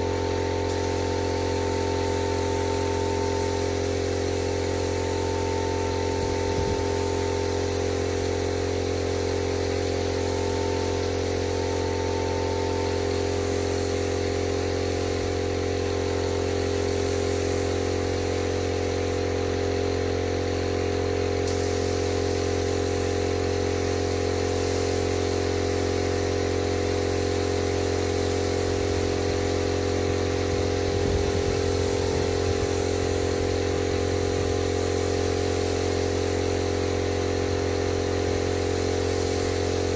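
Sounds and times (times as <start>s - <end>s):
air motor humming and hissing: 0.0s - 39.9s.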